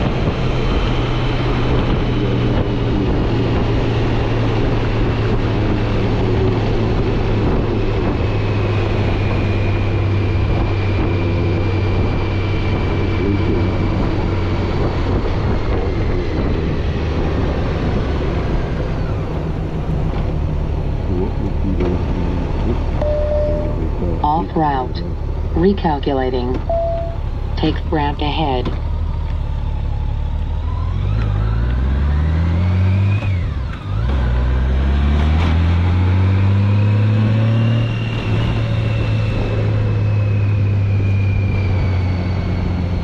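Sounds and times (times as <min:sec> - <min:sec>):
wind rushing over microphone: 0:00.0 - 0:24.4, 0:32.9 - 0:43.0
motorcycle engine drone: 0:00.0 - 0:43.0.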